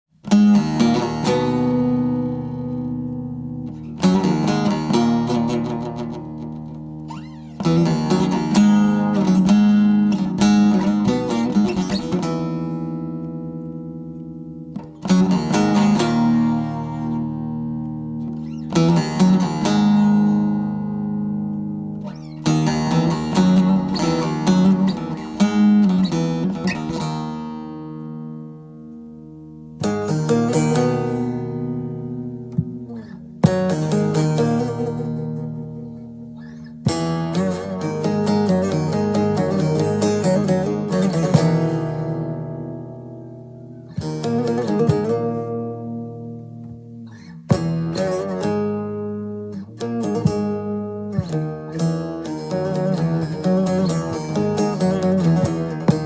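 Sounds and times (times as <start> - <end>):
acoustic guitar chords ringing: 0.2 - 56.0.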